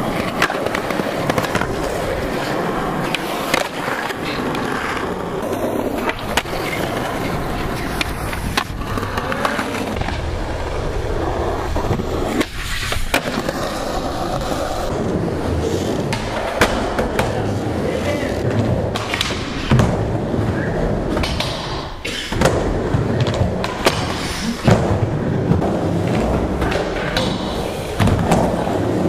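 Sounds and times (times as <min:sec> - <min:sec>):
skateboard clacking on ground: 0:00.0 - 0:29.0
skateboard wheels rolling on concrete: 0:00.0 - 0:29.0.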